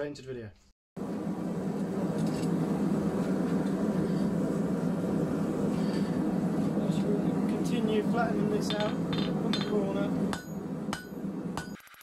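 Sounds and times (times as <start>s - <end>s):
gas forge burning: 1.0s - 11.7s.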